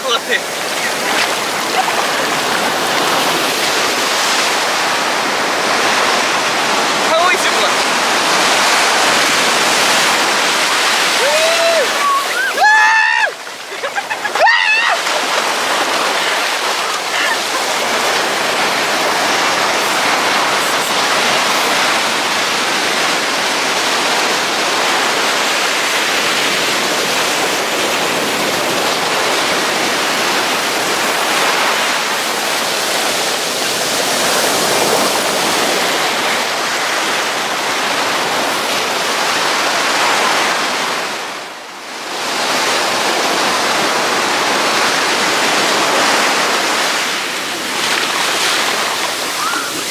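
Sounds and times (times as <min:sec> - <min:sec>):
ocean surf on sand: 0:00.0 - 0:49.9.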